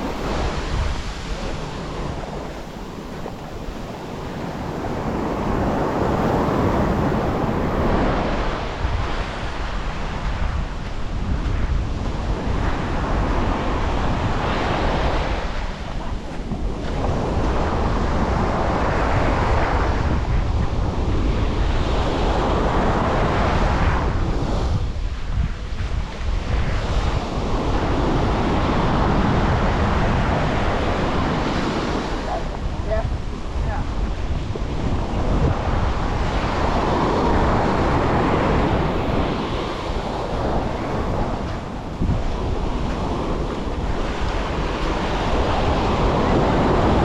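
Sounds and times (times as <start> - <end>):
sea waves washing onto beach: 0.0 - 47.0
wind buffeting microphone: 0.0 - 47.0.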